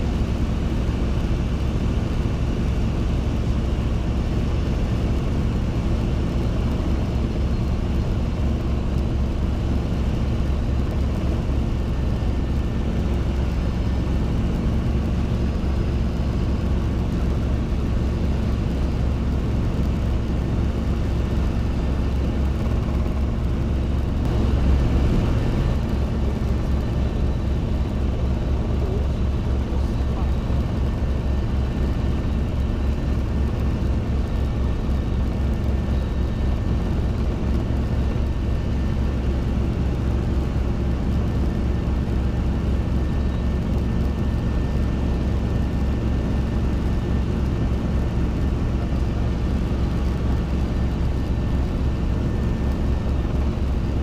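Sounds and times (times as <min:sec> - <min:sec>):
helicopter engine drone: 0:00.0 - 0:54.0.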